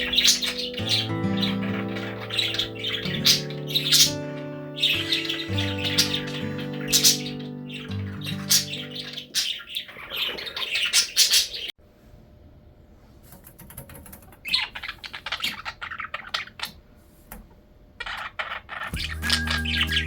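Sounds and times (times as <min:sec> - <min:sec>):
small birds chirping: 0:00.0 - 0:11.8, 0:14.3 - 0:16.8, 0:18.0 - 0:20.0.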